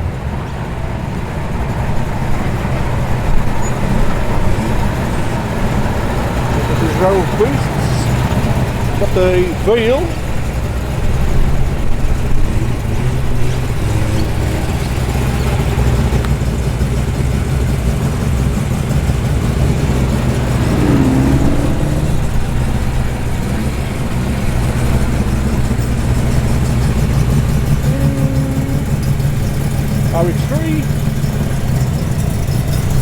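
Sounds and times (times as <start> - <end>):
car engines idling: 0.0 - 33.0.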